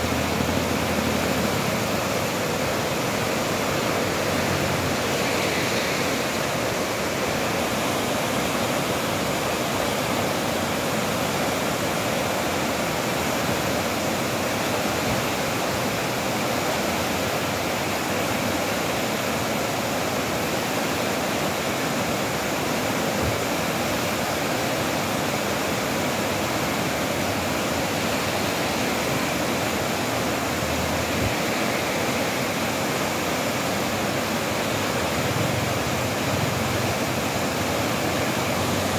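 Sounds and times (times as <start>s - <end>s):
floodwater rushing down a channel: 0.0s - 38.9s.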